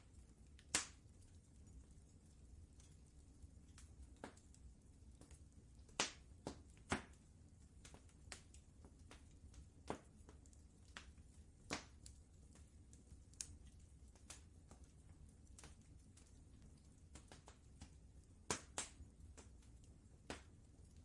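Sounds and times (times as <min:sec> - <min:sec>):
faint low rumble: 0:00.0 - 0:21.0
wood fire crackling and popping: 0:00.0 - 0:21.0.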